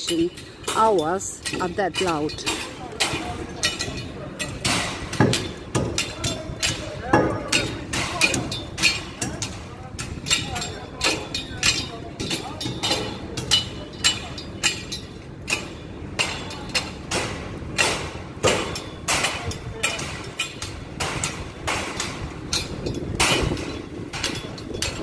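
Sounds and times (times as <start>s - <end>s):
hammer blows ringing: 0.0s - 25.0s
low rumble of site machinery: 0.0s - 25.0s.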